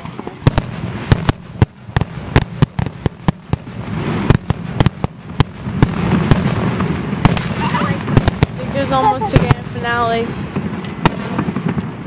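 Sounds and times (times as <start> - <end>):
continuous fireworks rumble: 0.0 - 12.0
fireworks bangs: 0.0 - 12.0.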